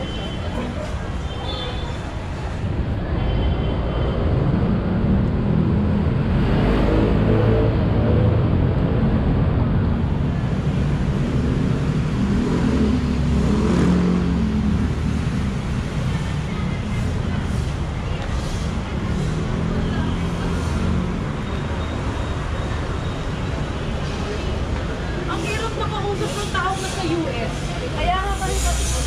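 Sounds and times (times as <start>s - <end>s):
vehicle engines passing: 0.0s - 29.0s.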